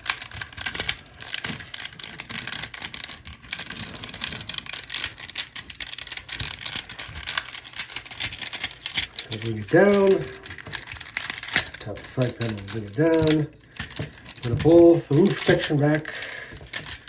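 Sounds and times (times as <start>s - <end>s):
plastic toy parts clicking: 0.0s - 17.0s.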